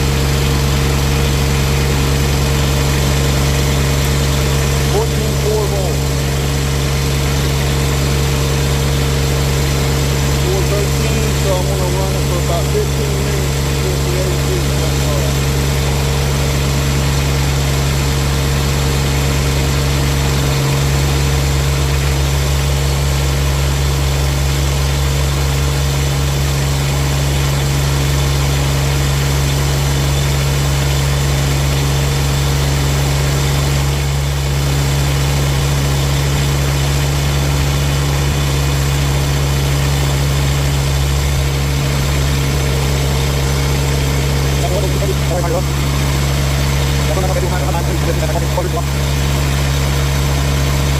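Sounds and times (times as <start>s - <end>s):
excavator engine idling: 0.0s - 50.9s.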